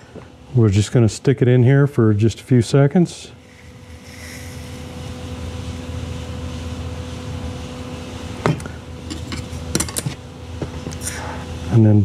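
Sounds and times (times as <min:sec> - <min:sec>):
low shop hum: 0:00.0 - 0:12.0.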